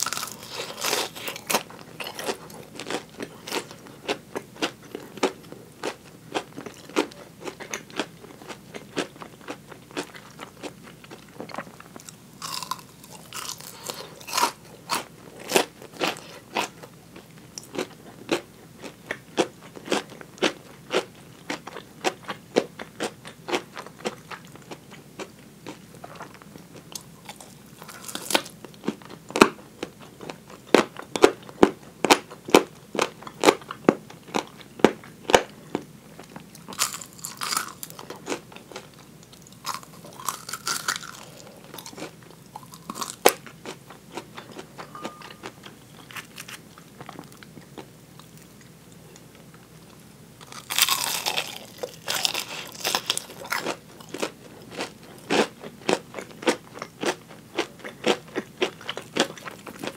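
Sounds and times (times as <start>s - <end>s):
chewing crispy fried chicken: 0.0s - 59.9s.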